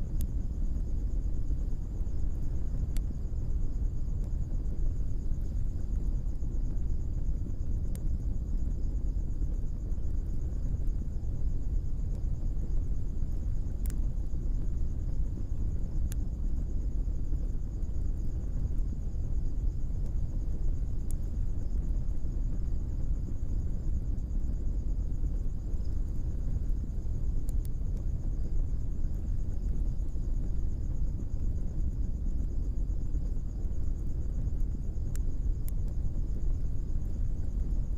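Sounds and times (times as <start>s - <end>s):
sharp pops from fire: 0.0s - 8.6s, 9.4s - 24.4s, 25.2s - 37.9s
coals crackling: 0.0s - 8.8s, 9.4s - 37.9s
forge fire rumbling: 0.0s - 37.9s.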